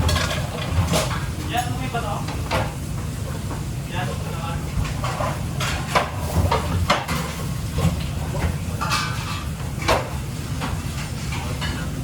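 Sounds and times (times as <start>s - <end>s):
utensils and dishes clinking: 0.0s - 2.8s, 4.8s - 12.0s.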